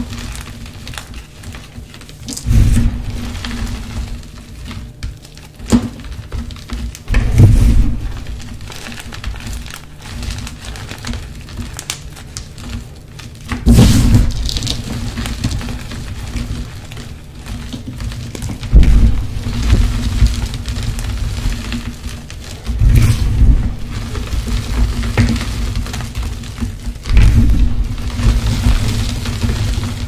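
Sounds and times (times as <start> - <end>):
hands crumbling chalk powder: 0.0 - 30.0.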